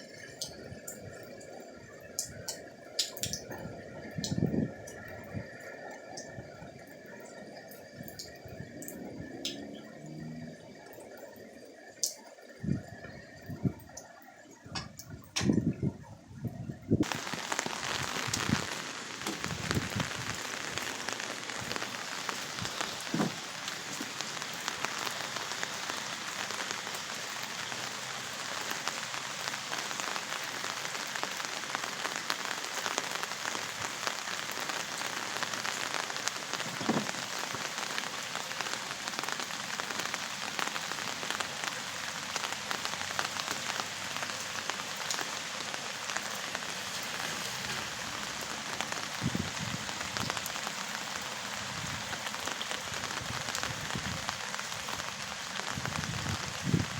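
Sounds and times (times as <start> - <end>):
heavy rain downpour: 0.0 - 56.9.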